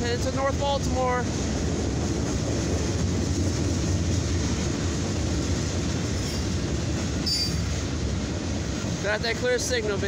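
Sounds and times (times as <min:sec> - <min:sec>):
freight train wheels rumbling on rails: 0:00.0 - 0:10.0.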